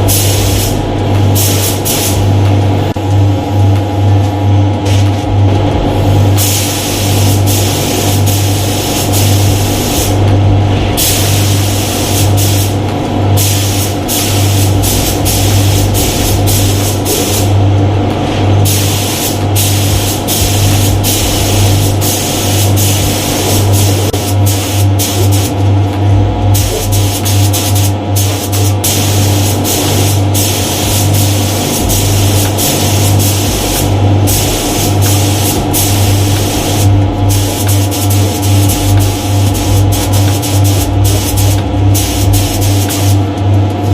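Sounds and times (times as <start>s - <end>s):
spray gun hissing: 0.0s - 2.3s, 6.0s - 10.2s, 11.0s - 12.8s, 13.4s - 17.6s, 18.6s - 25.6s, 26.5s - 43.3s
steady low hum: 0.0s - 43.9s.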